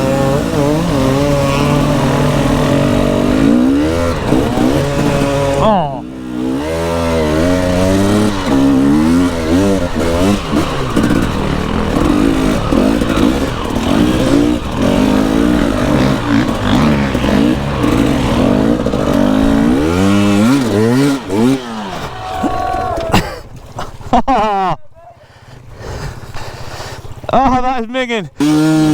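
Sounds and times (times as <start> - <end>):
dirt bike engine revving: 0.0 - 24.3, 28.3 - 28.9
rattle and splash of riding: 0.0 - 28.9.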